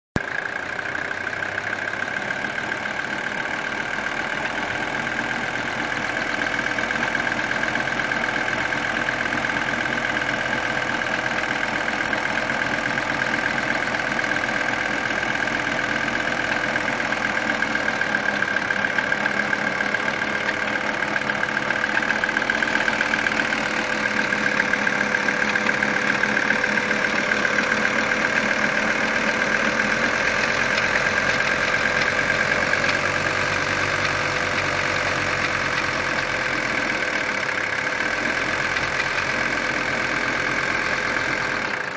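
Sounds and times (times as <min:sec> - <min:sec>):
diesel engine idling with knock: 0:00.2 - 0:41.9.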